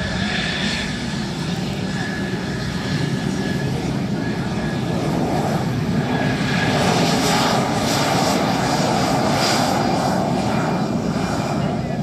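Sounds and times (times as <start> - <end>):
jet engine roaring with whine: 0.0 - 12.0.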